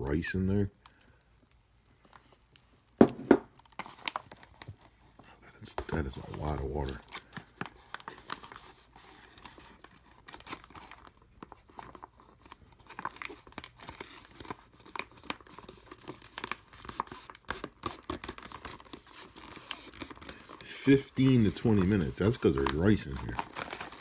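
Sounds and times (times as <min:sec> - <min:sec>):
foil pouch crinkling: 0:00.8 - 0:24.0.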